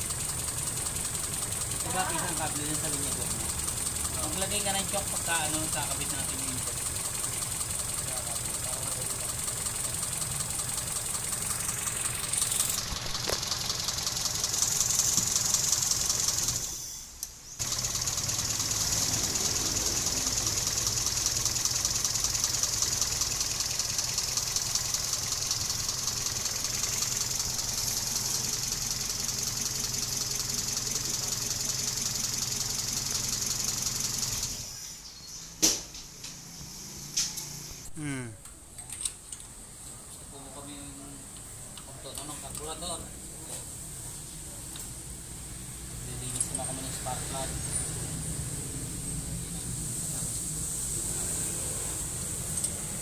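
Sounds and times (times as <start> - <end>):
car engine idling rough: 0.0 - 16.7, 17.6 - 34.8, 41.9 - 53.0.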